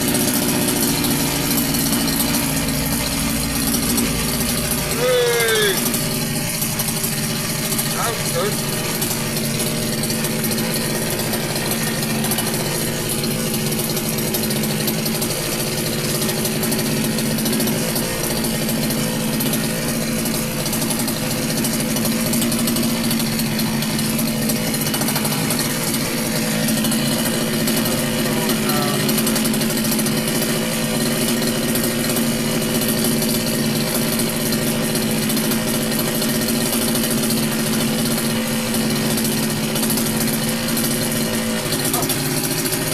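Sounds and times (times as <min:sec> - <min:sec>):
strimmer engine running: 0:00.0 - 0:42.9.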